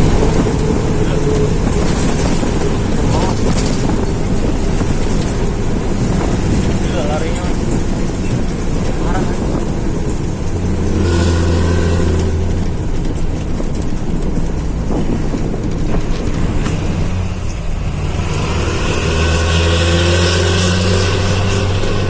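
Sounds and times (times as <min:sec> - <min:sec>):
bus diesel engine under load: 0:00.0 - 0:22.0.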